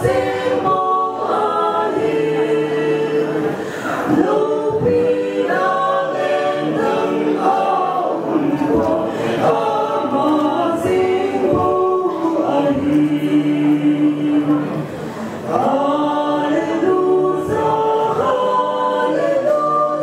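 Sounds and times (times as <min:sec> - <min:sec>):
vocal quartet singing a cappella: 0:00.0 - 0:20.0.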